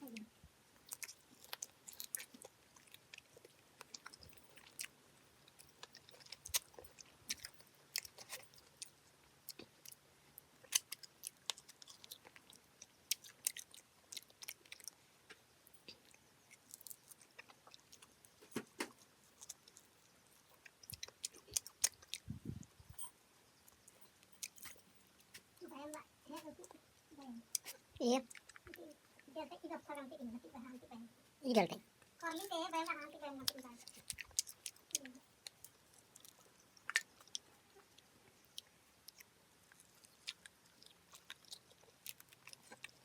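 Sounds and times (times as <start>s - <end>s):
person chewing and eating: 0.8s - 25.6s, 26.6s - 29.3s, 33.5s - 43.0s.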